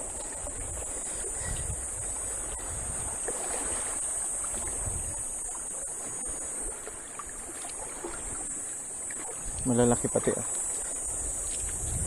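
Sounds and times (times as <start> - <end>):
water lapping over rocks: 0.0 - 12.0.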